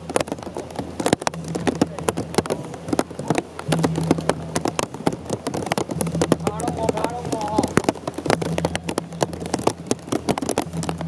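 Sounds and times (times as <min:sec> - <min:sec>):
heavy rain on an umbrella: 0:00.0 - 0:11.0.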